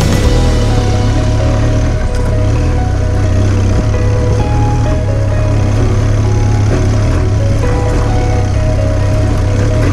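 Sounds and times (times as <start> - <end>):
background music with held notes: 0.0 - 9.9
motorcycle engine running: 0.0 - 9.9.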